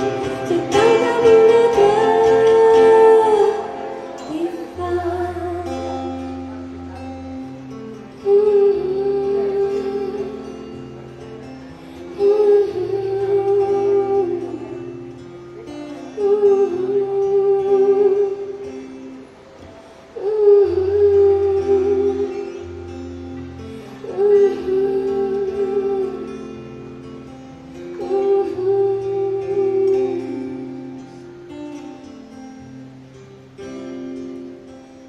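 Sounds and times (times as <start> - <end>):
woman singing slow song: 0.0 - 7.3, 7.9 - 32.2
fingerpicked acoustic guitar: 0.0 - 35.0.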